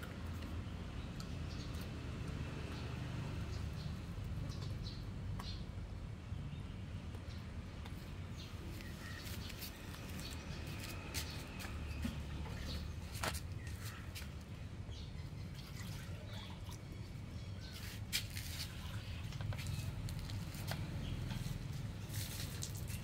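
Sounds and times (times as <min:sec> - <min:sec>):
birds chirping: 0:00.4 - 0:23.0.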